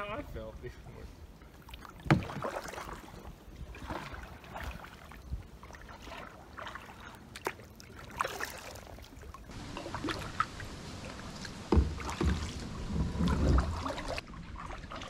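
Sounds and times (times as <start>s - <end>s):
paddle splashing in water: 1.4s - 15.0s.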